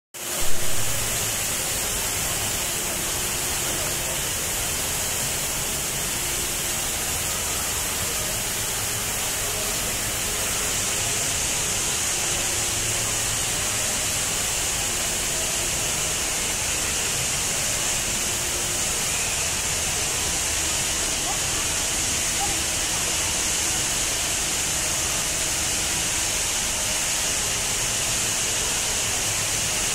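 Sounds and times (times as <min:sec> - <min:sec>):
indoor waterfall rushing: 0:00.2 - 0:29.9.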